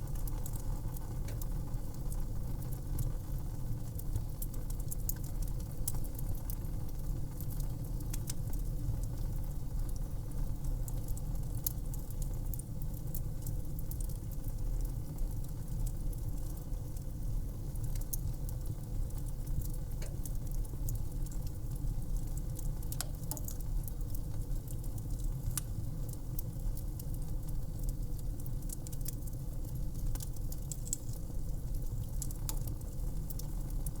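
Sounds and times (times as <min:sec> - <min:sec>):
fire crackling and popping: 0:00.0 - 0:34.0
low fire rumble: 0:00.0 - 0:34.0.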